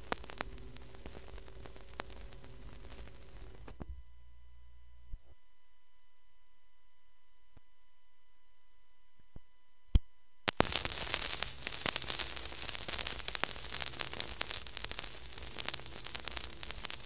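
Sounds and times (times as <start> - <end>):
crackling static: 0.0 - 17.0.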